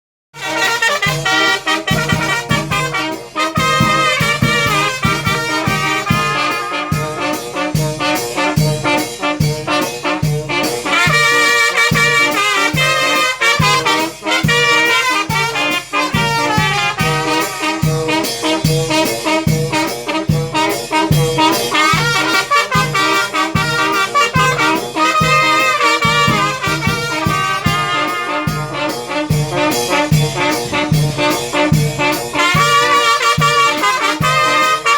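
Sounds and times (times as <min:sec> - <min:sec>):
brass band playing: 0:00.3 - 0:34.9.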